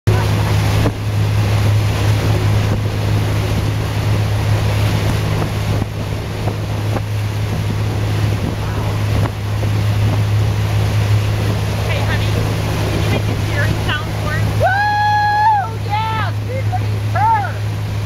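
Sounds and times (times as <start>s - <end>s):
churning wake water: 0.0s - 18.0s
motorboat engine droning: 0.0s - 18.0s
wind buffeting microphone: 0.1s - 18.0s.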